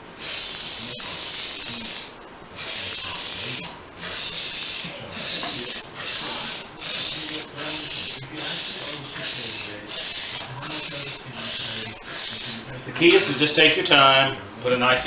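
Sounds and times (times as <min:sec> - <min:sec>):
spray paint can hissing: 0:00.2 - 0:13.4.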